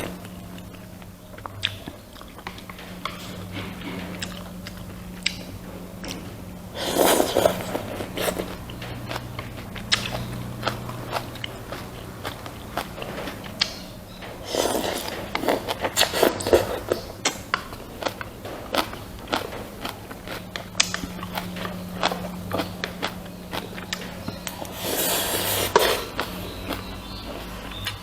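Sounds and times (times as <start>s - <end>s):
chewing: 0.0s - 28.0s
faint low hum: 0.0s - 28.0s.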